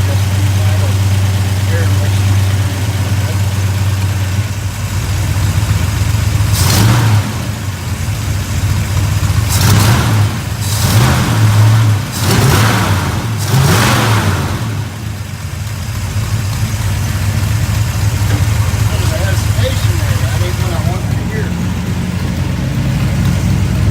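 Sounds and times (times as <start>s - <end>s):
engine idling with throttle blips: 0.0s - 23.9s.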